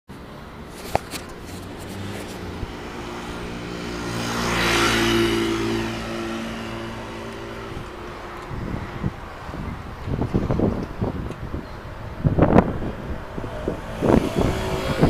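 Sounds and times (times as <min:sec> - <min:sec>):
vehicle passing close by: 0:01.2 - 0:11.2, 0:12.2 - 0:15.0.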